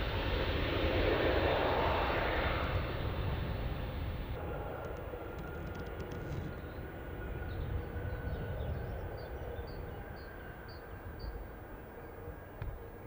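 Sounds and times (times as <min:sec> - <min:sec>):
jet engines rumbling at take-off: 0:00.0 - 0:13.0.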